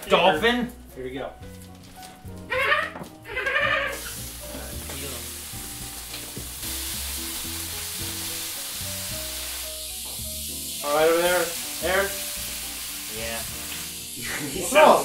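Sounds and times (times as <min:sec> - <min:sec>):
bacon sizzling in frying pan: 0:00.2 - 0:15.0.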